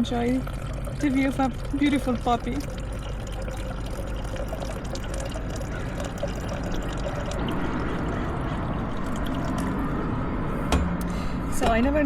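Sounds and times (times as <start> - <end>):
water pouring into a bottle: 0.0 - 9.9.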